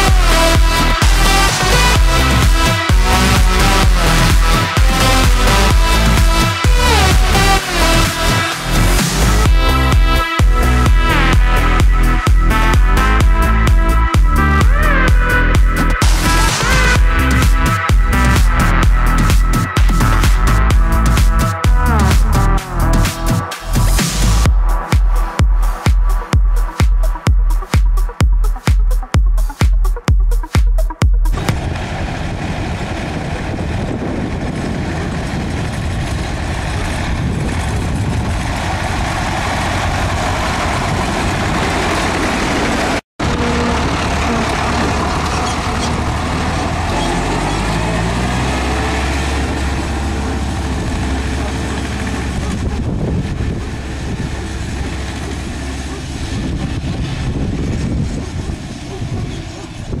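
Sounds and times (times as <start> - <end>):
heavy noise: 0.0 - 29.1, 30.8 - 60.0
diesel tractor engines revving: 0.0 - 29.6, 30.8 - 60.0.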